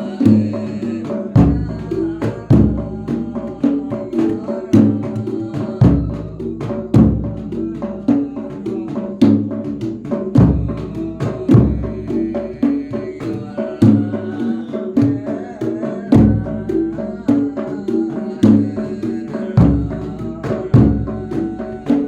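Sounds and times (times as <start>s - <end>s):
percussion ensemble playing: 0.0s - 22.0s.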